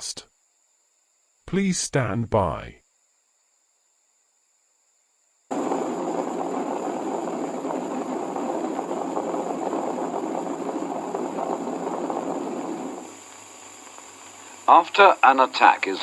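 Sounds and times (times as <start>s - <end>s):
faint high steady whine: 0.0s - 16.0s
static hiss: 0.0s - 16.0s.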